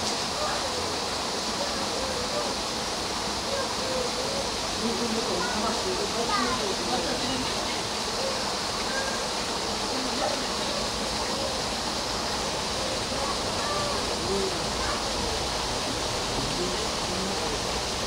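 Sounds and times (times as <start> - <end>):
distant people chatter: 0.0 - 18.0
outdoor background hiss: 0.0 - 18.0.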